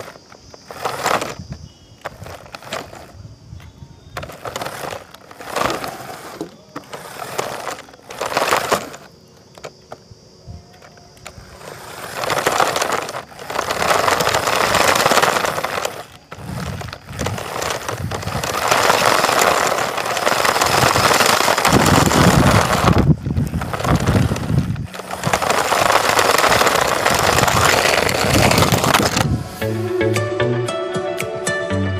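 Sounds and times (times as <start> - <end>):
toy car rolling over gritty ground: 0.0 - 29.6.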